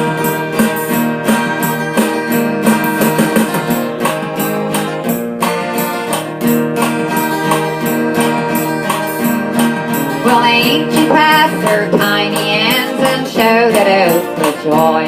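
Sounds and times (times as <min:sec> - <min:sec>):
guitar strummed: 0:00.0 - 0:15.0
held notes: 0:00.0 - 0:15.0.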